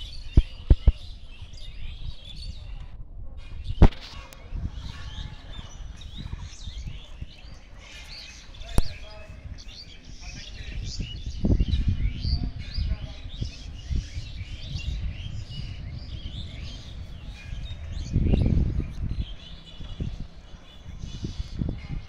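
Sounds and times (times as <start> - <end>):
microphone rumble: 0.0 - 22.0
small birds chirping: 0.0 - 22.0.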